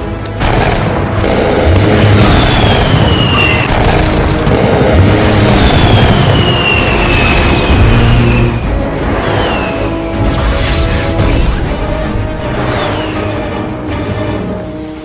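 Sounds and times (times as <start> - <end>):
film score music: 0.0 - 15.0.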